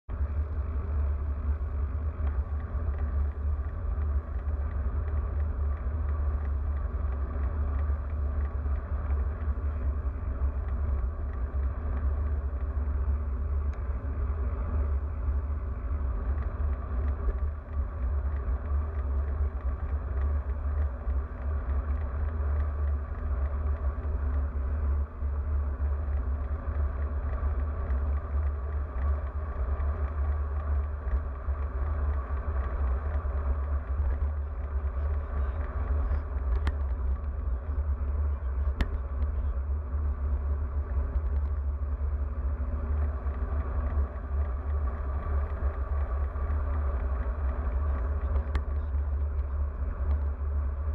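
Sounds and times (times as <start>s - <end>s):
road noise: 0.1s - 50.9s
wind buffeting microphone: 0.1s - 50.9s.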